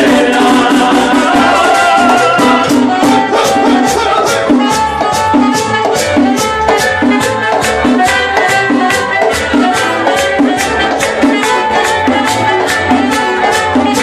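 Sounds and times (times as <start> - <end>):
upbeat latin-style music: 0.0 - 14.0.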